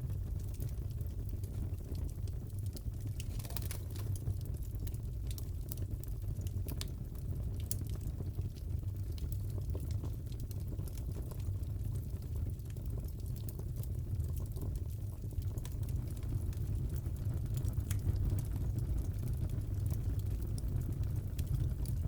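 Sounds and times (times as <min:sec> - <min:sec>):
fire popping and crackling: 0:00.0 - 0:22.0
fire rumbling: 0:00.0 - 0:22.0.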